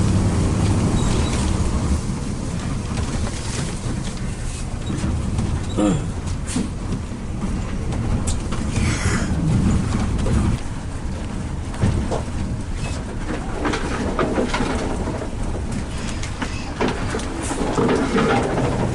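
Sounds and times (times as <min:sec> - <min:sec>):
bus engine and road rumble: 0:00.0 - 0:18.9
knocks and rattles: 0:02.4 - 0:18.9.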